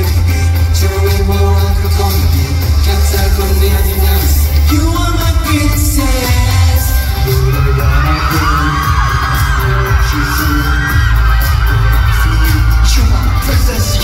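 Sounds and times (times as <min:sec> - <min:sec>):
heavy bass line: 0:00.0 - 0:14.0
man singing into microphone: 0:00.0 - 0:14.0.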